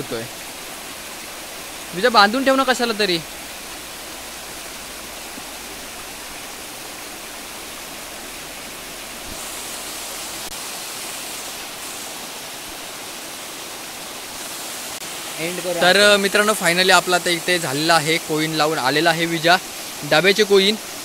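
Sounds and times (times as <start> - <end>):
water rushing in stream and waterfall: 0.0 - 21.0.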